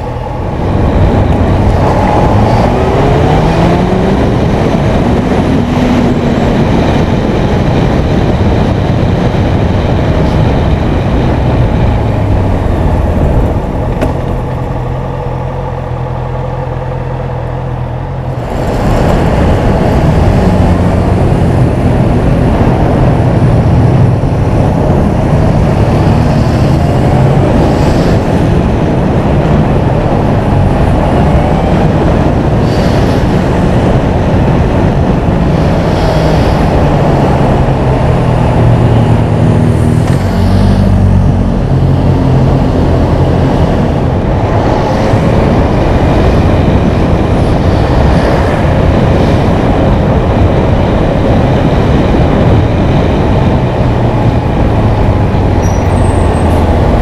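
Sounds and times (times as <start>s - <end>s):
motorcycle engine running: 0.0s - 57.0s
wind rushing on microphone: 0.0s - 57.0s.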